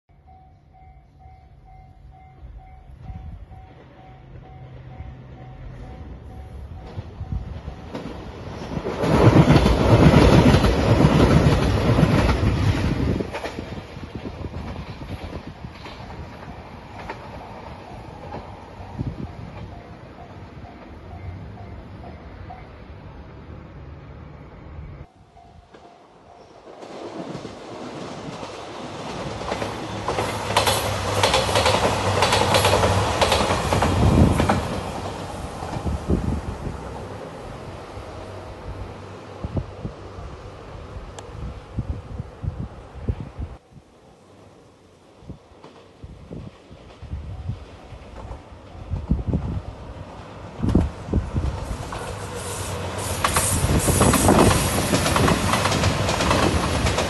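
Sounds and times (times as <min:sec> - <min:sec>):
train wheels on rails: 0:01.7 - 0:22.8, 0:25.4 - 0:42.0, 0:45.2 - 0:57.0.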